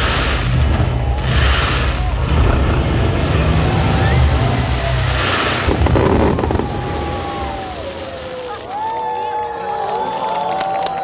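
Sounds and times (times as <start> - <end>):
fireworks bursting and crackling: 0.0 - 9.1
crowd cheering and shouting: 0.0 - 11.0.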